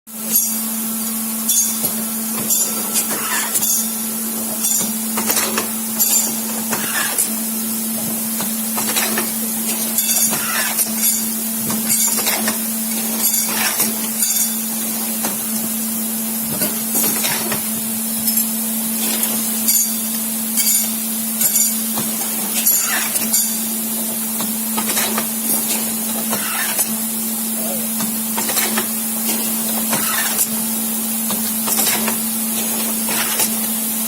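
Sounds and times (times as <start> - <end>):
machine hum with high hiss: 0.1 - 34.0.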